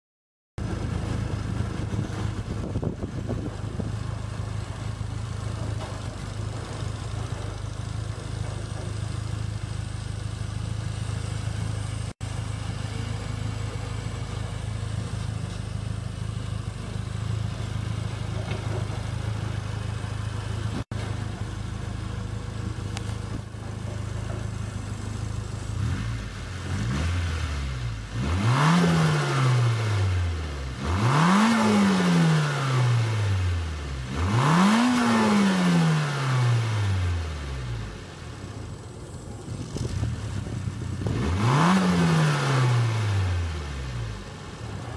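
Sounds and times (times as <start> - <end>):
car engine idling and revving: 0.6 - 44.9.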